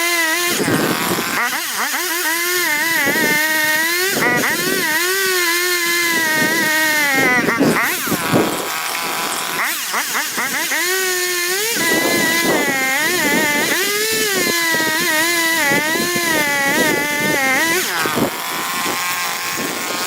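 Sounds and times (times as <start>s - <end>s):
chainsaw cutting: 0.0s - 20.0s.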